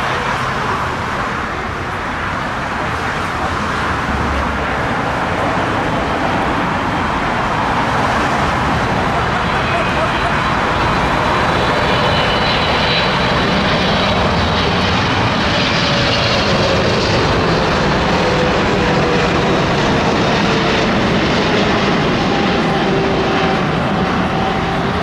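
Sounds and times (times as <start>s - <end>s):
jet engine roar with whine: 0.0s - 25.0s.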